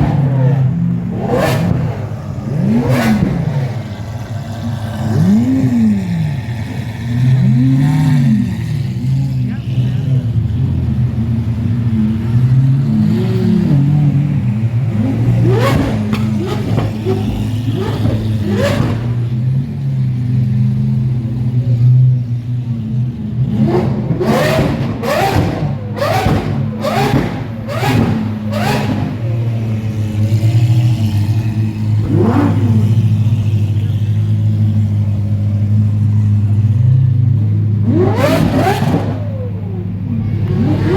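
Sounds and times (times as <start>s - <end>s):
supercar engines idling: 0.0s - 40.9s.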